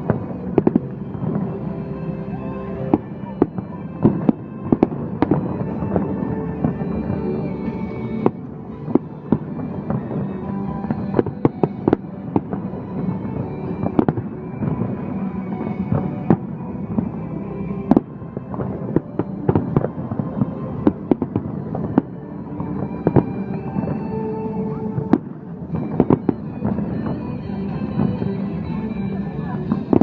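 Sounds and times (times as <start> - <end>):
fireworks bangs: 0.0 - 30.0
music with sustained chords: 0.0 - 30.0.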